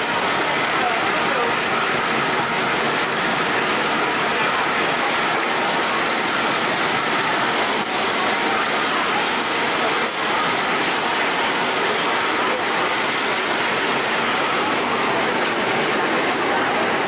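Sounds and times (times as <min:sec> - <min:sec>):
train rolling past: 0:00.0 - 0:17.0.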